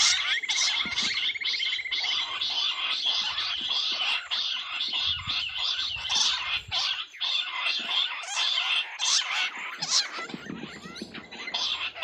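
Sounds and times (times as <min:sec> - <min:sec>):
quails chirping and whistling: 0:00.0 - 0:12.0.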